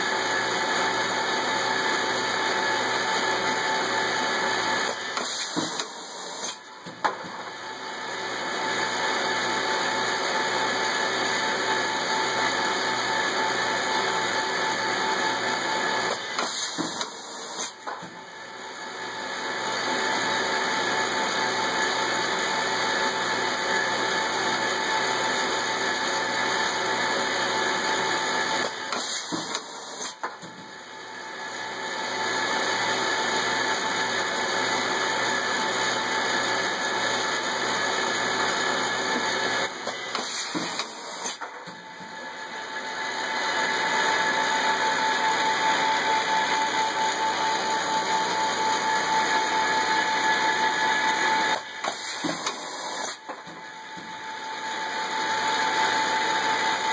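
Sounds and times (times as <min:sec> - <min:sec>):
machine hum and hiss: 0:00.0 - 0:56.9.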